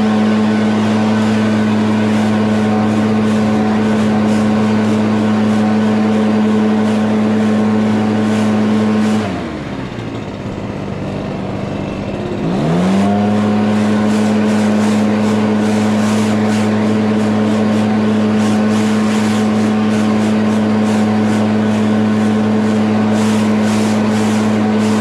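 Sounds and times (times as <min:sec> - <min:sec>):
lawn mower engine revving: 0:00.0 - 0:25.0.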